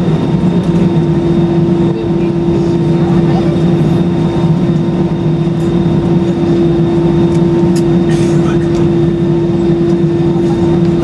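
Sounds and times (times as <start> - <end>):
airplane cabin hum: 0.0 - 11.0.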